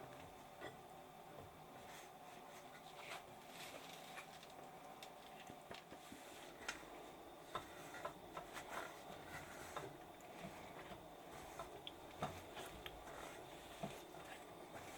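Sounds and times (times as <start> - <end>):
faint steady background noise: 0.0 - 14.9.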